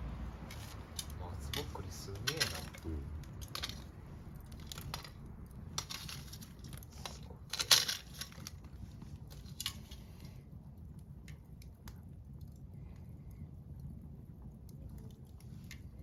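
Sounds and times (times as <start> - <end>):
campfire crackling and popping: 0.0 - 16.0
low steady rumble: 0.0 - 16.0.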